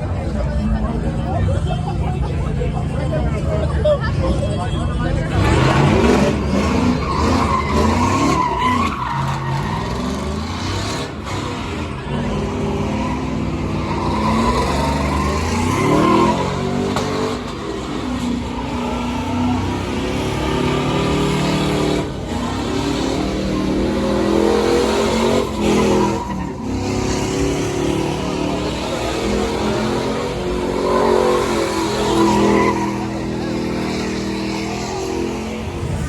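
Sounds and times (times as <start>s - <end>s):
tires squealing: 0.0s - 36.0s
truck engine revving hard: 0.0s - 36.0s.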